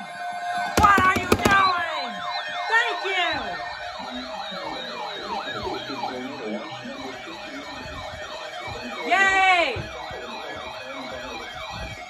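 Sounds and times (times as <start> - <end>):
electronic siren wailing: 0.0 - 12.0.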